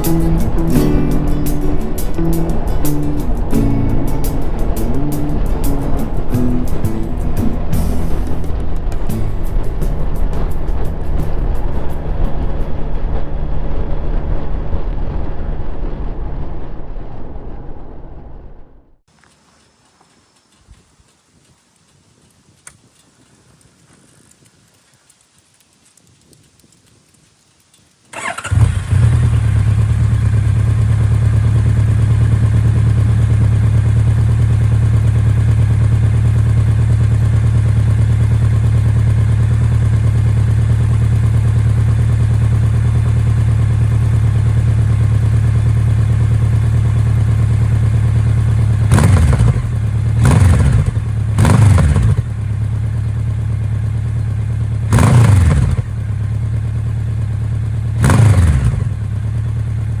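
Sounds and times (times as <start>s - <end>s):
motorcycle engine idling and revving: 0.0s - 16.8s, 19.0s - 60.0s.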